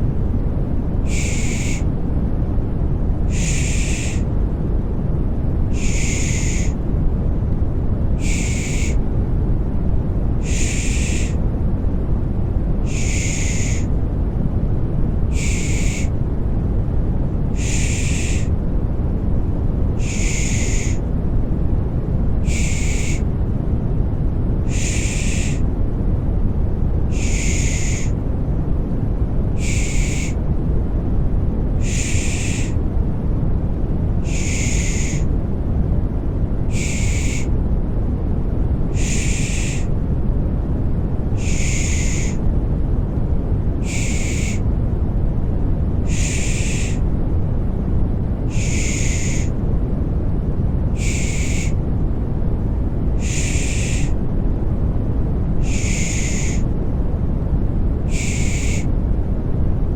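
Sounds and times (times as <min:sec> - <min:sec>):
deep rushing white noise: 0:00.0 - 0:59.9.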